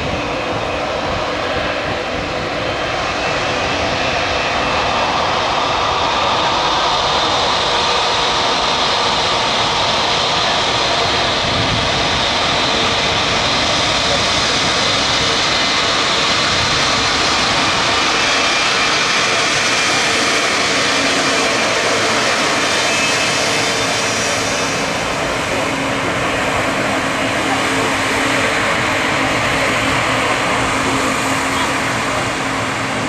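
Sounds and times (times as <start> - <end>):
aircraft engines roaring: 0.0 - 33.0.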